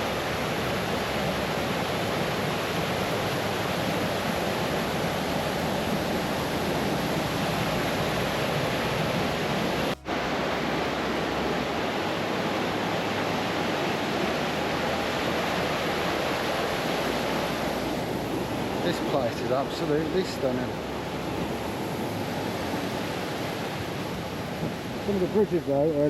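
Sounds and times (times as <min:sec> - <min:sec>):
river rushing over small waterfalls: 0:00.0 - 0:26.0.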